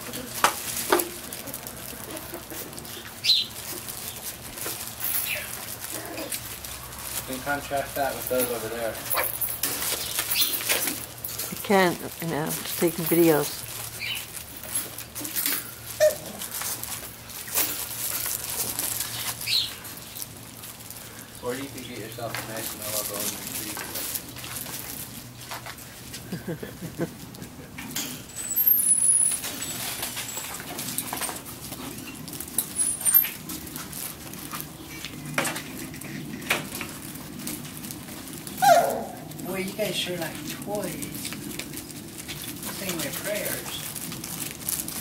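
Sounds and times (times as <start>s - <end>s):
puppies scuffling in sand: 0.0s - 27.6s, 28.2s - 45.0s.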